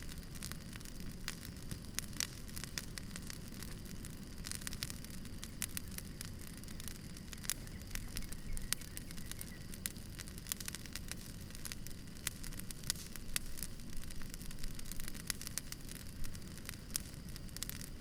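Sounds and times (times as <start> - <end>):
bonfire crackling and popping: 0.0 - 18.0
low fire rumble: 0.0 - 18.0.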